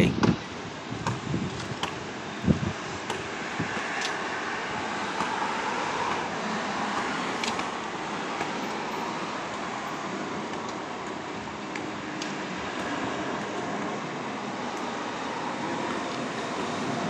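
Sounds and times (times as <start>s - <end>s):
jet engines roaring: 1.8s - 17.0s.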